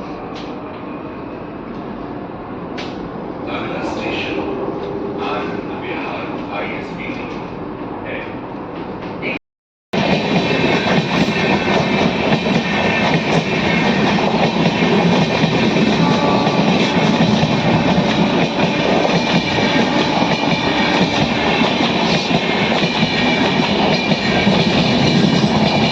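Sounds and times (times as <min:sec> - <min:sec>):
train running on rails: 0:00.0 - 0:09.4, 0:10.0 - 0:25.9.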